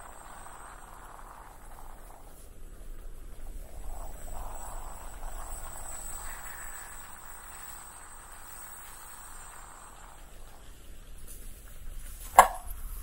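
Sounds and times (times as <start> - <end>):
high-pitched motor whine: 0.0 - 13.0.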